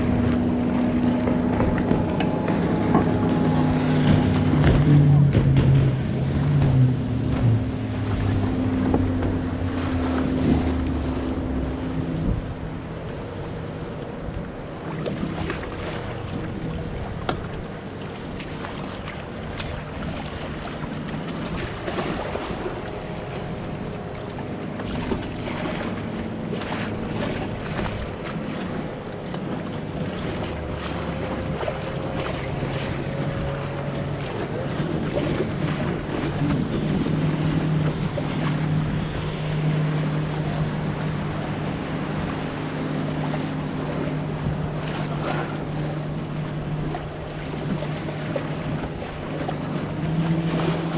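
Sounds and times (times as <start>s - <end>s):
outboard motors droning: 0.0s - 50.9s
water slapping: 0.0s - 50.9s
wind on microphone: 0.0s - 50.9s.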